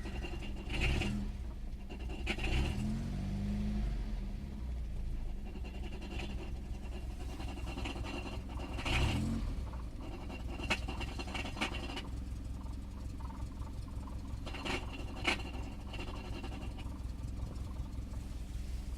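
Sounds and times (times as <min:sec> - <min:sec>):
light metallic rattle: 0:00.0 - 0:03.4, 0:04.2 - 0:18.9
car engine idling: 0:00.0 - 0:18.9.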